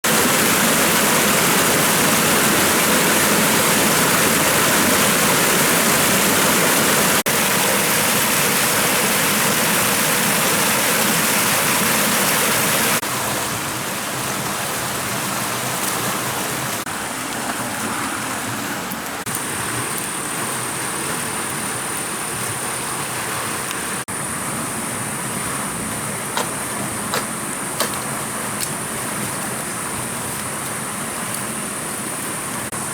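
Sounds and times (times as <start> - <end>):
loud rushing water: 0.0 - 32.9.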